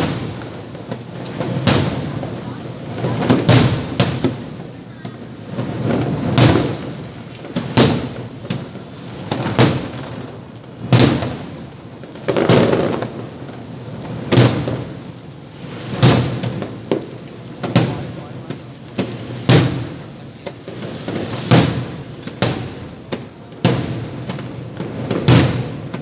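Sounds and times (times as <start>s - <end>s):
fireworks booming: 0.0s - 26.0s
small sharp firework cracks: 0.0s - 26.0s.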